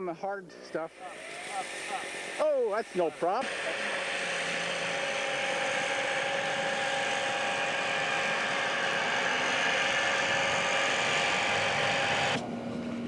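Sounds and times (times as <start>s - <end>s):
model aircraft engine buzzing: 0.6s - 13.0s.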